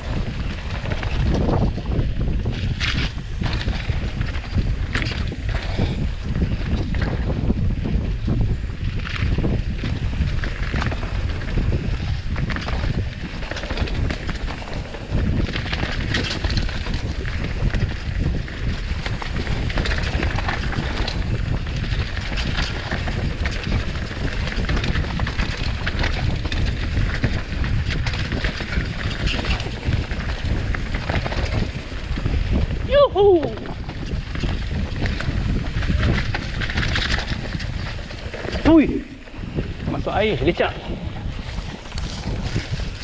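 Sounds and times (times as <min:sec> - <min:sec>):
bike clattering over bumps: 0:00.0 - 0:32.9, 0:33.6 - 0:43.0
wind buffeting microphone: 0:00.0 - 0:43.0
tyres rushing on dirt and leaves: 0:08.6 - 0:43.0.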